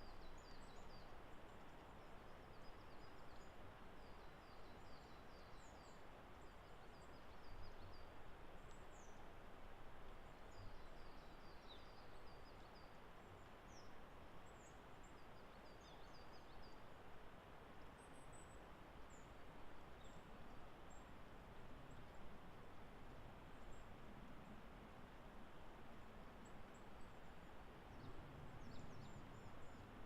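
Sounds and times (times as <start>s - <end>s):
woodland ambience hiss: 0.0s - 30.0s.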